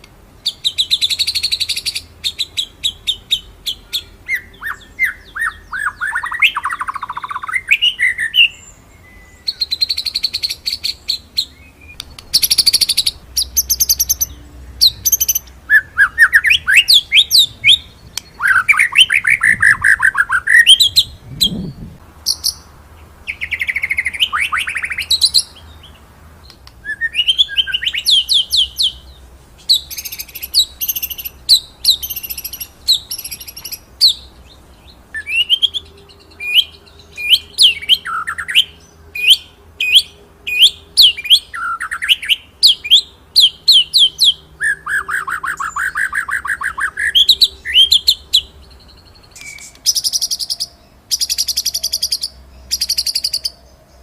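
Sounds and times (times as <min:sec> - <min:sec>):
bird singing trills: 0:00.4 - 0:54.0.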